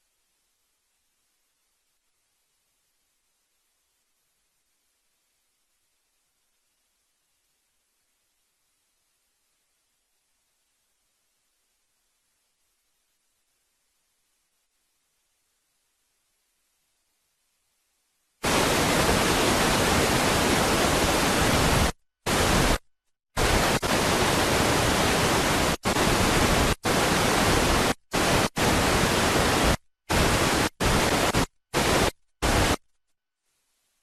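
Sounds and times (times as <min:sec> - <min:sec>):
loud static-like hiss: 0:00.0 - 0:22.8, 0:23.4 - 0:34.0.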